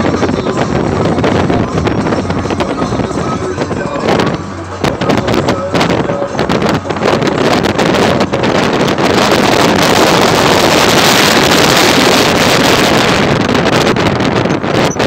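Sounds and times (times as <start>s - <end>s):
vehicle running noise: 0.0s - 15.0s
wind rushing over microphone: 0.0s - 15.0s.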